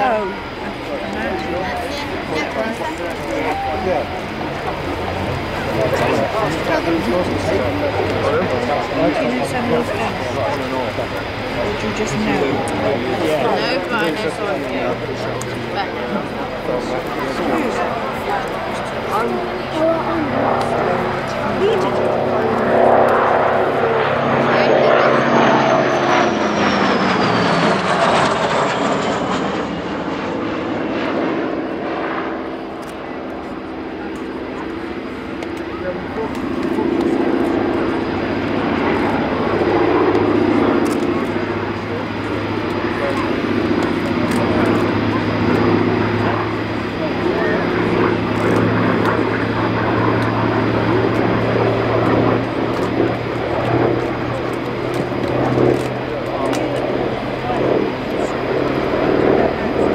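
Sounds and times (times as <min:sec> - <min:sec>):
aircraft engine drone: 0:00.0 - 0:59.9
jet flying past overhead: 0:00.0 - 0:59.9.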